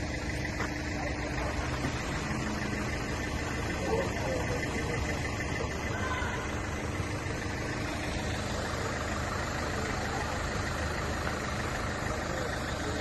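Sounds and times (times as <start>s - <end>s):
street noise: 0.0s - 13.0s
vehicle engine idling: 0.0s - 13.0s.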